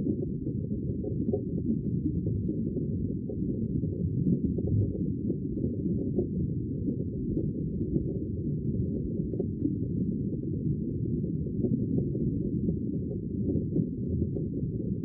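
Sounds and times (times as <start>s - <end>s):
muffled rumbling sea: 0.0s - 15.0s.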